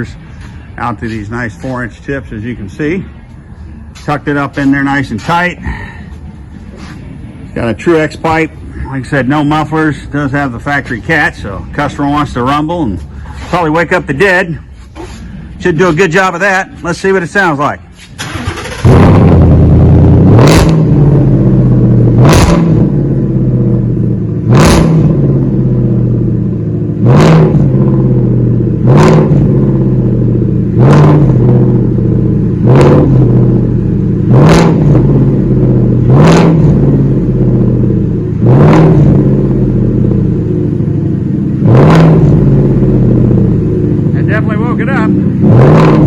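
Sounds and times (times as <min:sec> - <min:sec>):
loud truck engine idling: 0:00.0 - 0:20.3, 0:27.6 - 0:46.0
engine revving with exhaust crack: 0:00.0 - 0:46.0.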